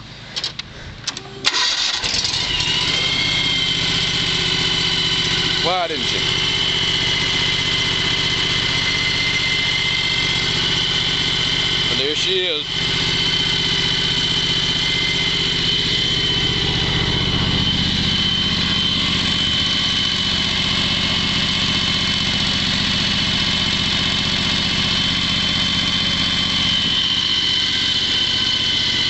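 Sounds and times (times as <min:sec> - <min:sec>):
mower engine idling: 0:00.0 - 0:29.0
high-pitched whine: 0:01.1 - 0:29.0.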